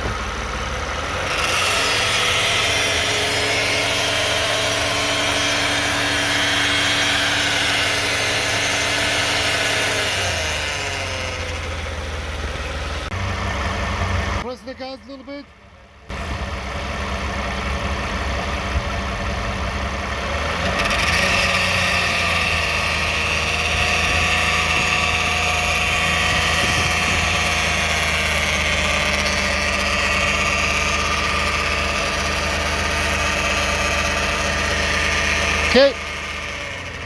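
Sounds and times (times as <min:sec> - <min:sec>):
car engine idling: 0:00.0 - 0:08.9, 0:10.4 - 0:20.9, 0:21.6 - 0:37.0.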